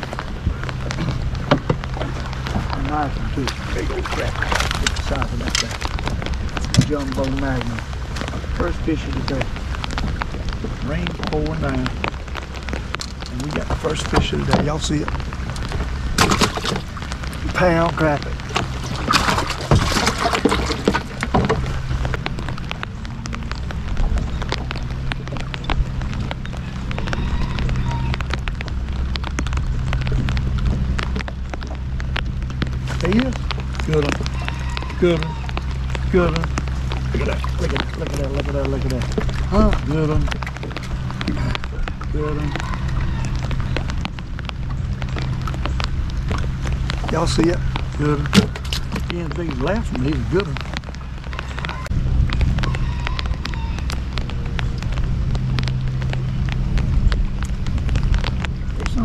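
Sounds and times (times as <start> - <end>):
heavy rain falling: 0.0 - 59.0
raindrops ticking: 0.0 - 59.0
steady low hum: 0.0 - 59.0.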